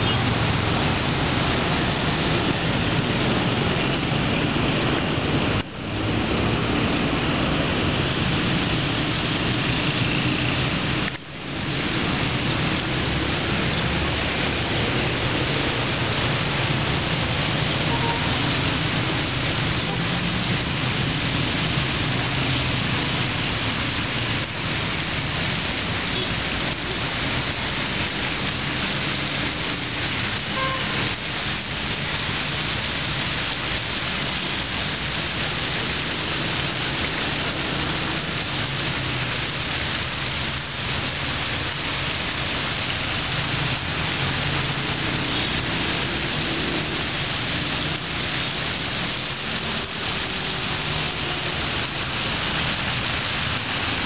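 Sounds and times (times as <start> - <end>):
fountain jets splashing into water: 0.0 - 54.0.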